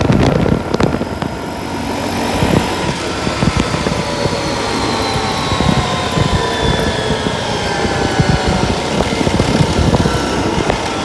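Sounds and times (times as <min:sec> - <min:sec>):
low rumble and buffeting: 0:00.0 - 0:11.0
vehicle engine running: 0:00.0 - 0:11.0.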